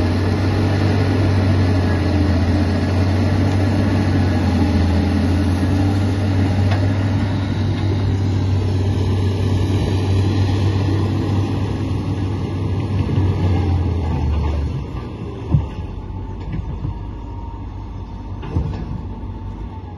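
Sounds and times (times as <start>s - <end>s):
bulldozer diesel engine droning: 0.0s - 19.9s.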